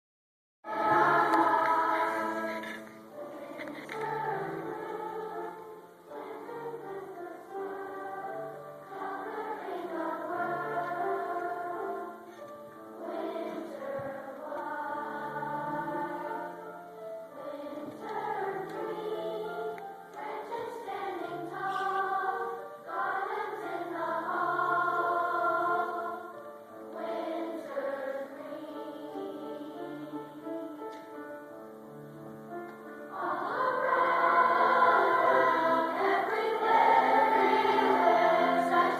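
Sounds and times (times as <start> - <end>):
choir singing slow melody: 0.7 - 31.9, 32.5 - 38.9.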